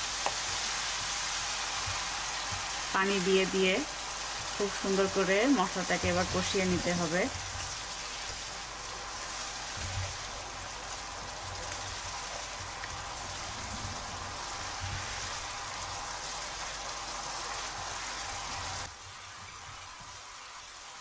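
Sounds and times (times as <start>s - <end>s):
paste sizzling in frying pan: 0.0s - 21.0s.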